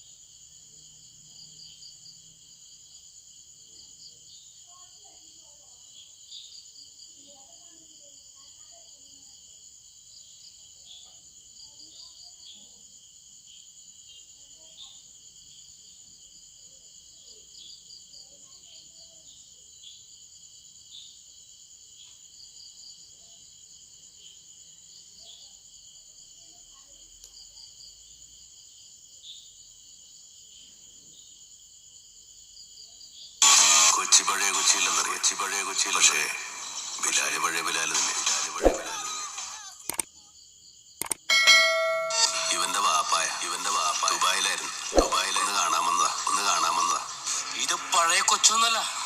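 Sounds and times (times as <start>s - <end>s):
crickets and insects trilling: 0.0s - 41.2s, 41.8s - 49.0s.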